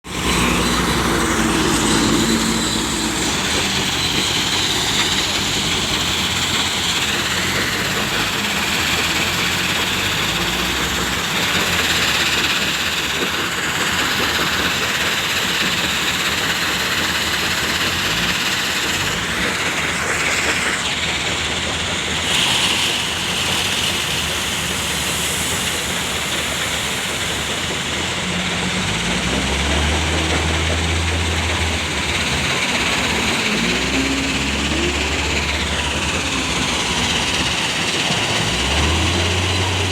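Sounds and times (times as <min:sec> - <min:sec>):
heavy truck engine and road noise: 0:00.0 - 0:39.9.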